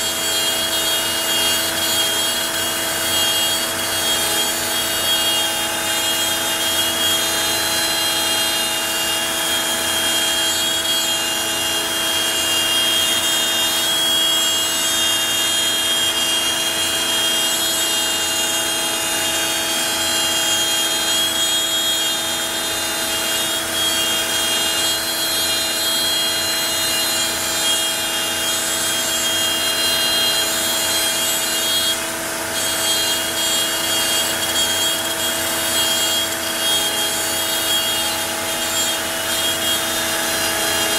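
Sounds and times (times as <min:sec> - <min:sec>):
router bit rasping: 0:00.0 - 0:40.9
router spindle whine: 0:00.0 - 0:40.9.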